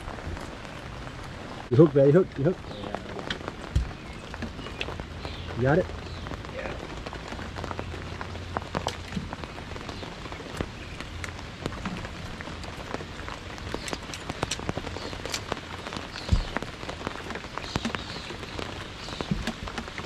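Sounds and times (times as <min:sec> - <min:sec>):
close raindrop hits: 0:00.0 - 0:20.0
rain falling: 0:00.0 - 0:20.0.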